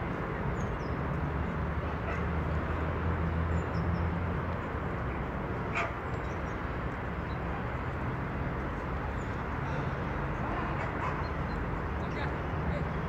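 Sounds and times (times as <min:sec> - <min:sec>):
park background noise: 0:00.0 - 0:13.0.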